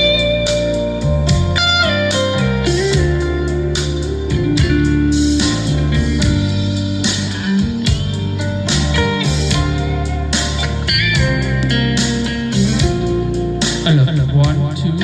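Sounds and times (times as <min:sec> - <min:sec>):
bass notes: 0:00.0 - 0:15.0
lead guitar: 0:00.0 - 0:15.0
drum beat: 0:01.2 - 0:14.7.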